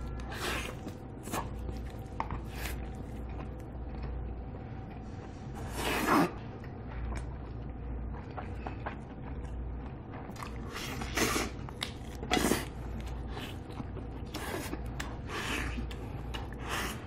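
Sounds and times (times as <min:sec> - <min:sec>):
biting and chewing meat: 0:00.0 - 0:17.0.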